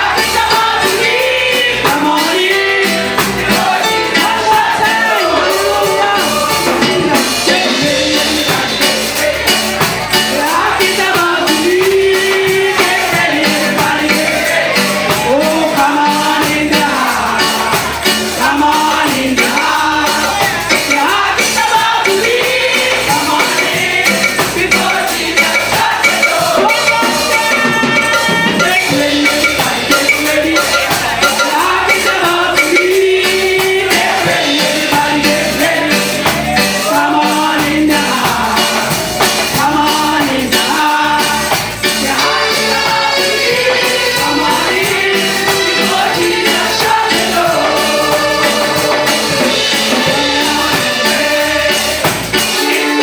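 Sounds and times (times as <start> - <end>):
choir singing gospel song: 0.0 - 53.0
instrumental accompaniment with beat: 0.0 - 53.0.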